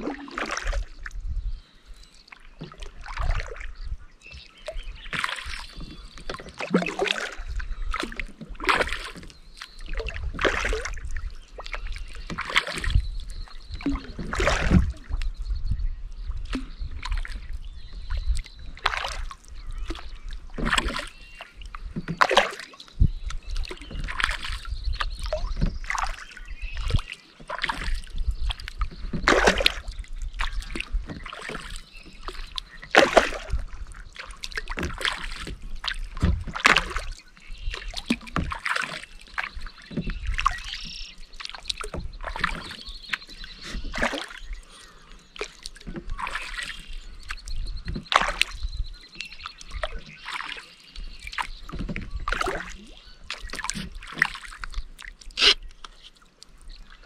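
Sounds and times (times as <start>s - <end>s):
water splashing and dripping: 0.0s - 1.2s, 2.2s - 15.5s, 16.1s - 57.0s
paddle strokes in water: 0.0s - 57.0s.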